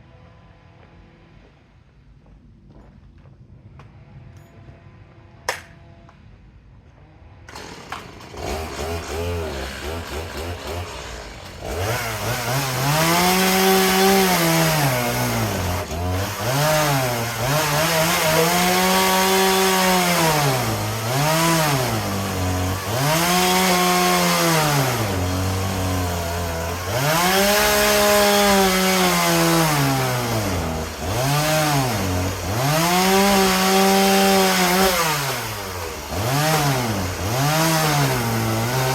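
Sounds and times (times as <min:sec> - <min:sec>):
chainsaw engine idling and revving: 0:07.4 - 0:38.9.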